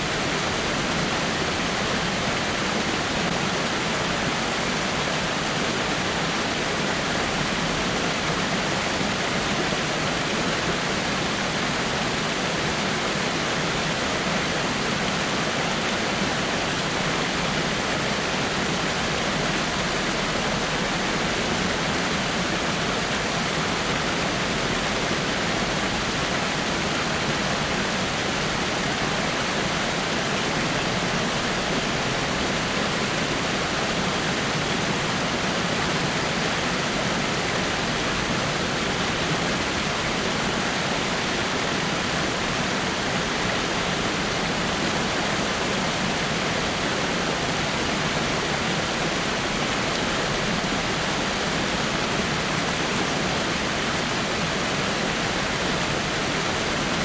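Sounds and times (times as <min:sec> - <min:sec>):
small waterfall splashing over rocks: 0:00.0 - 0:57.0.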